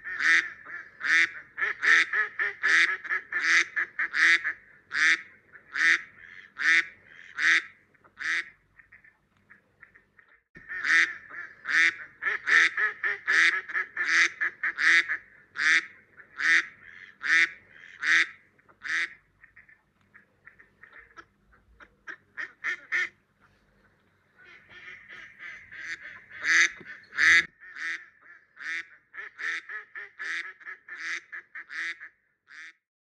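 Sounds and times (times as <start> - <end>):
duck quacking: 0.0 - 32.8.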